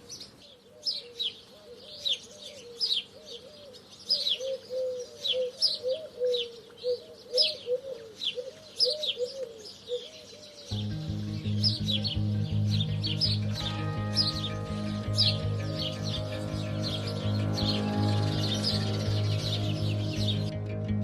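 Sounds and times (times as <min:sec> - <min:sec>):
sparrows chirping: 0:00.0 - 0:20.6.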